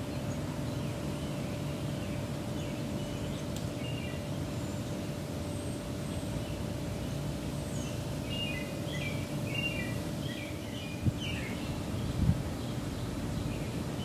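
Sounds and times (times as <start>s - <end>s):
faint hum: 0.0s - 14.0s
high chirping calls: 0.0s - 14.0s
low outdoor rumble: 0.0s - 14.0s.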